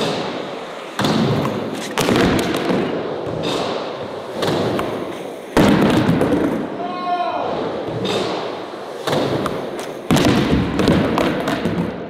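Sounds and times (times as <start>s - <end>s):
skateboards popping and landing: 0.0s - 6.8s, 7.6s - 12.0s
skateboard wheels rolling: 0.0s - 12.0s.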